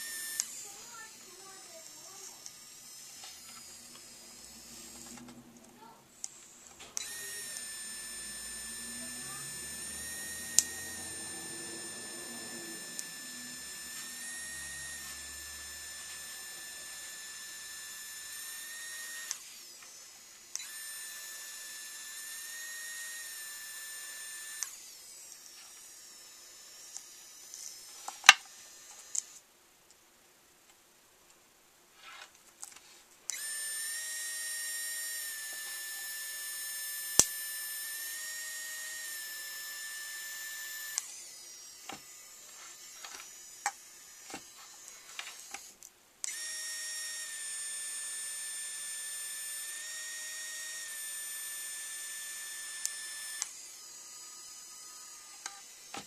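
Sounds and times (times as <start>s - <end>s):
printing pen motor whining: 0.0s - 29.5s, 33.3s - 56.0s.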